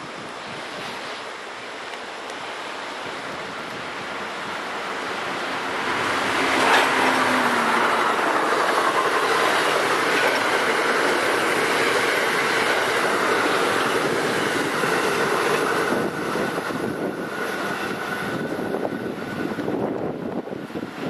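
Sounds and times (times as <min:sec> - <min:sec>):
train cars rushing past: 0:00.0 - 0:21.0.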